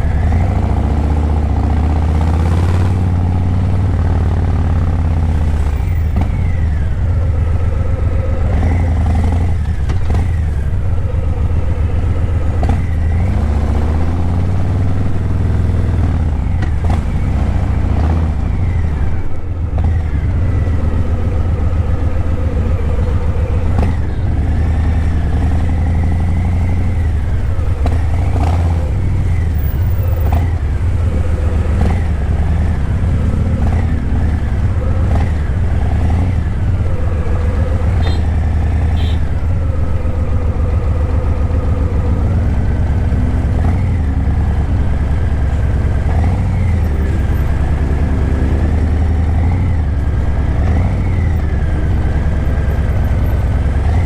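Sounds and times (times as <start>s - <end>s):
motorcycle engine rumbling and revving: 0.0s - 54.0s.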